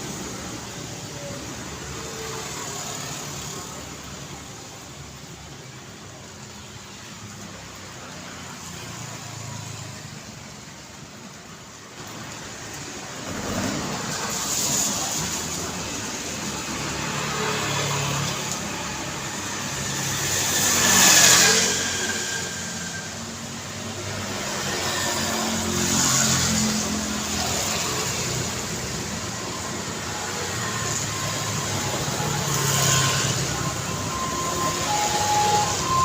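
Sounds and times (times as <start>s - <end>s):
busy street traffic: 0.0s - 36.0s.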